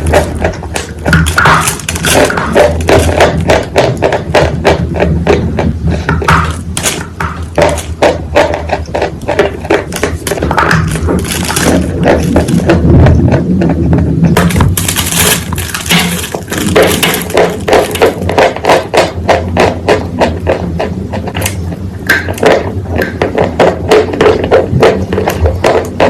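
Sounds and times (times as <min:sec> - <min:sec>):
quick irregular taps and knocks: 0:00.0 - 0:26.0
steady low hum: 0:00.0 - 0:26.0.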